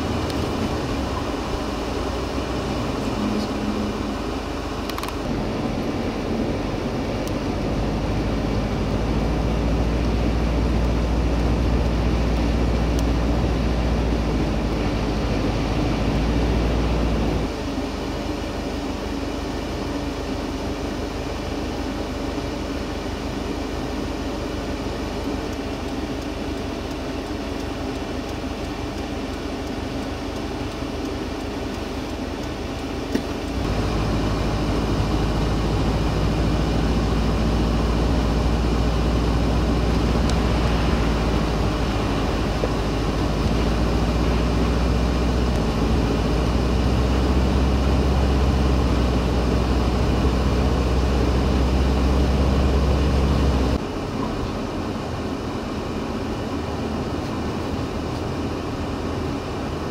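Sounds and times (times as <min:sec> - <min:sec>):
low engine drone: 0:00.0 - 0:59.9
vehicle running noise: 0:00.0 - 0:59.9.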